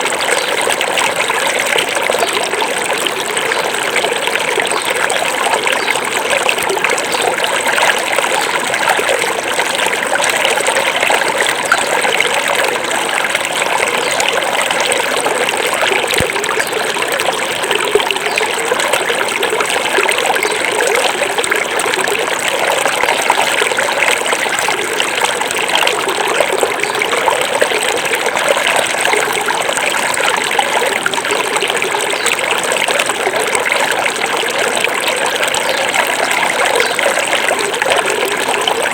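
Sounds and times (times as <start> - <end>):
river water babbling over stones: 0.0 - 38.9.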